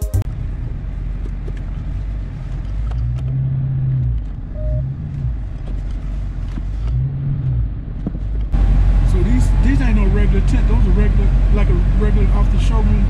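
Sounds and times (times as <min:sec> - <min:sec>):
car engine rumbling: 0:00.2 - 0:13.0.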